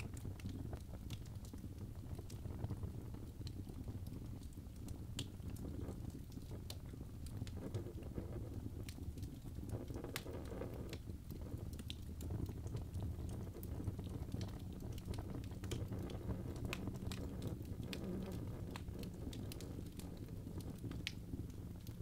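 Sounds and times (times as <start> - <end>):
fire crackling and popping: 0.0 - 22.0
fire flame rushing: 0.0 - 22.0.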